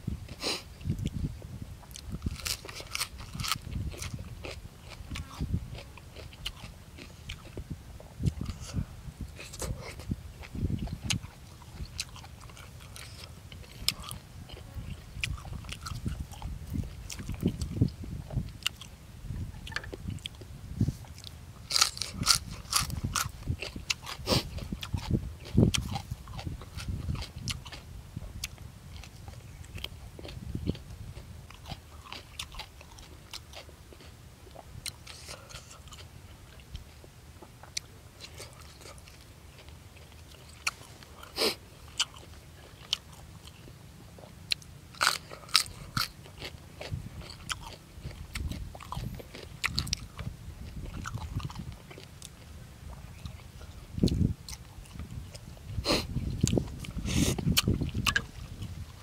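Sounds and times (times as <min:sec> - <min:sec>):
person chewing: 0:01.8 - 0:18.9, 0:19.6 - 0:59.0.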